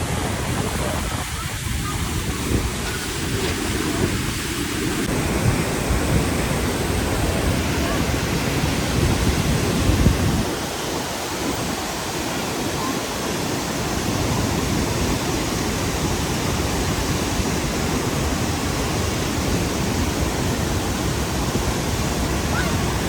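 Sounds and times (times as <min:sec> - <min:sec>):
steady rushing noise: 0:00.0 - 0:23.0.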